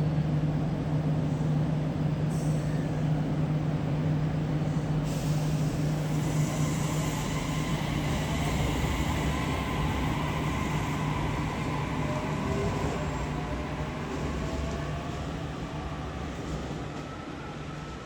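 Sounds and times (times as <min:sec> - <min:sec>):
faint train whine: 0:00.0 - 0:18.0
train rumbling with low hum: 0:00.0 - 0:18.0.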